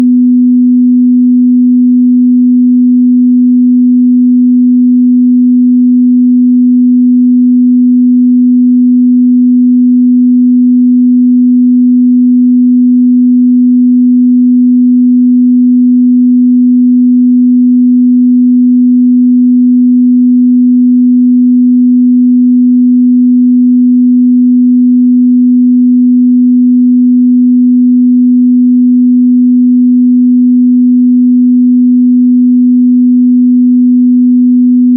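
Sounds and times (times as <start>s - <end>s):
pure sine test tone: 0.0s - 34.9s.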